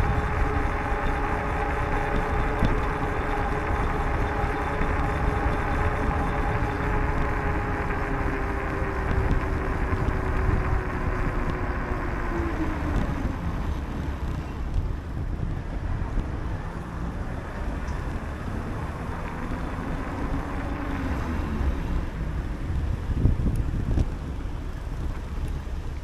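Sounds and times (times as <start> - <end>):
passing road traffic: 0.0 - 26.0
vehicle hum gliding down: 0.0 - 26.0
wind on microphone: 0.0 - 26.0.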